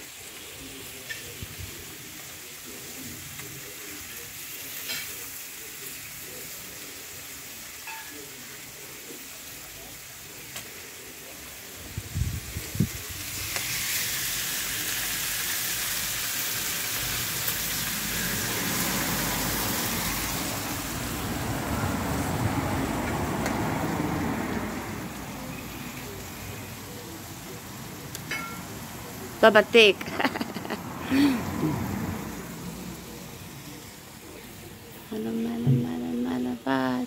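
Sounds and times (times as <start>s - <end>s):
meat sizzling on a griddle: 0.0s - 35.1s.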